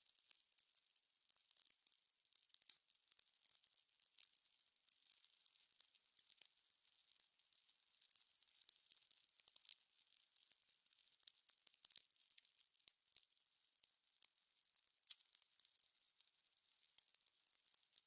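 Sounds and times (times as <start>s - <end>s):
wood fire crackling and popping: 0.1s - 6.5s, 7.1s - 18.0s.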